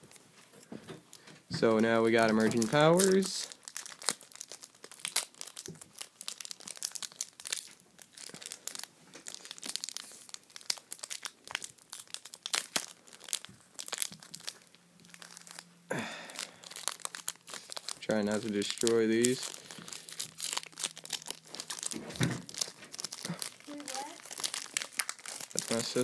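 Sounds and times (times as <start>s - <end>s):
foil wrapper crinkling and tearing: 2.0s - 26.0s.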